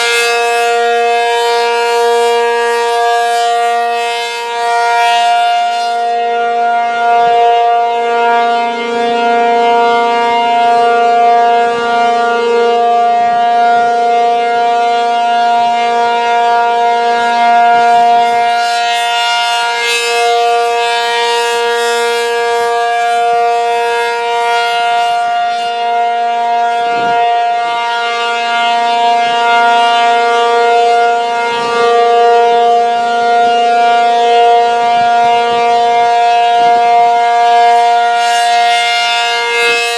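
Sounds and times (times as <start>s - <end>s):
rotating warning siren chord: 0.0s - 39.9s.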